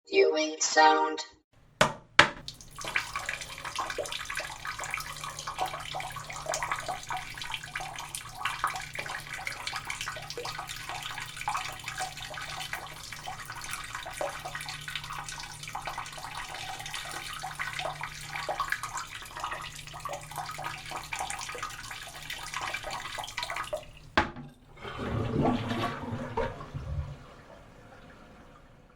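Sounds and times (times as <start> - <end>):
toilet flushing: 2.4 - 28.9.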